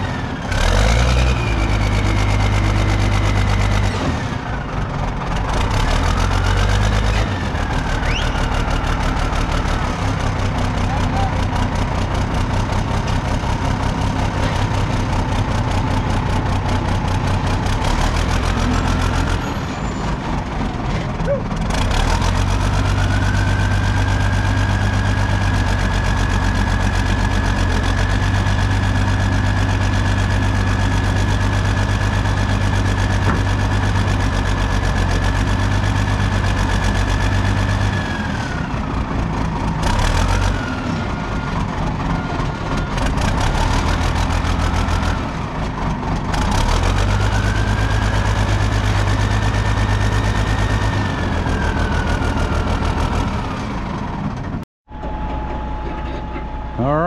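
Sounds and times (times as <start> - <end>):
diesel engine revving with whine: 0.0 - 57.0.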